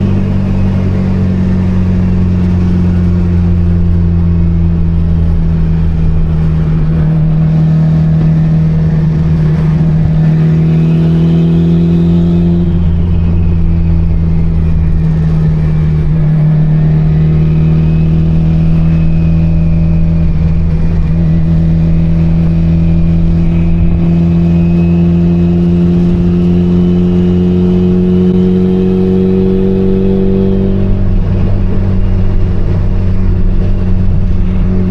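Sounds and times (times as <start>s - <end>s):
car engine droning: 0.0s - 34.9s
turbo whine: 0.0s - 34.9s.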